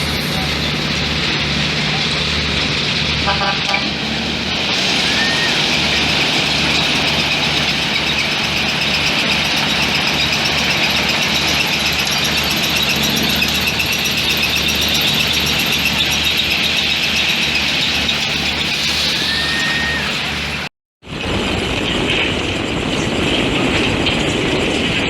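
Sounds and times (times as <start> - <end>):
high-pitched squeal: 0.0 - 20.7
machinery running: 0.0 - 25.0.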